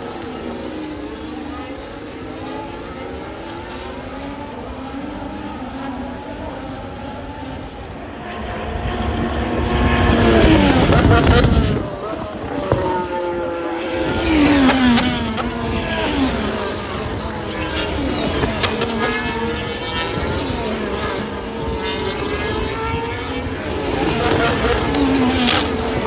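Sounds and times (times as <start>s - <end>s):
racing cars passing: 0.0s - 26.0s.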